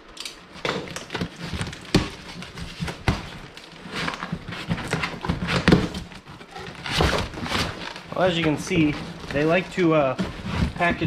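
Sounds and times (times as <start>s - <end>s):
cardboard rustling and scraping: 0.5s - 11.0s.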